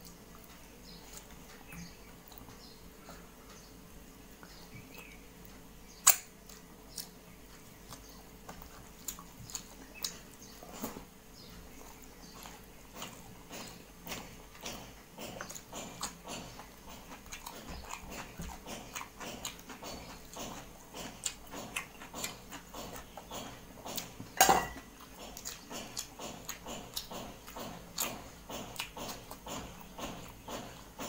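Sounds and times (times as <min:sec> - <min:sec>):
wet chewing and lip-smacking: 0:04.4 - 0:31.0.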